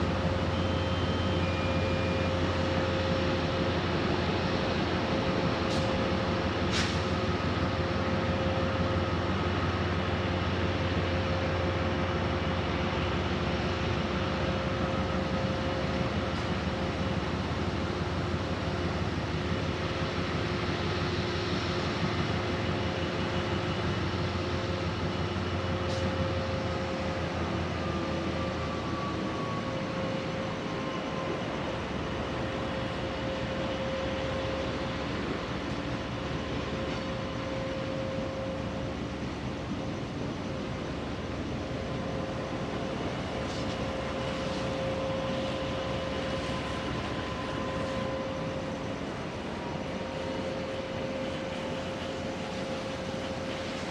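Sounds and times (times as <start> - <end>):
locomotive engine drone: 0.0 - 53.9.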